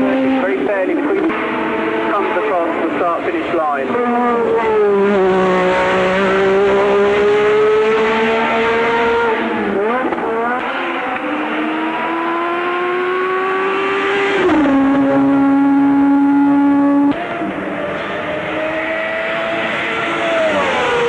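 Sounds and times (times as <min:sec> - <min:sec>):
racing car engine revving: 0:00.0 - 0:21.0.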